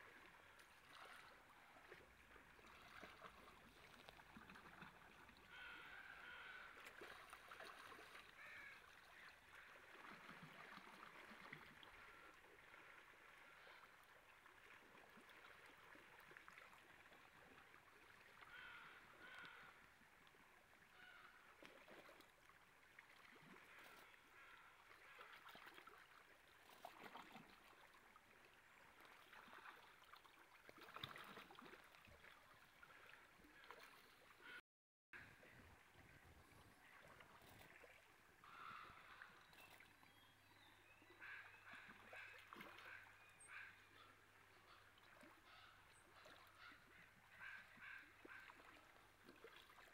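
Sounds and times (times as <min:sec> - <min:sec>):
faint stream water running: 0:00.0 - 0:34.6, 0:35.2 - 0:49.9.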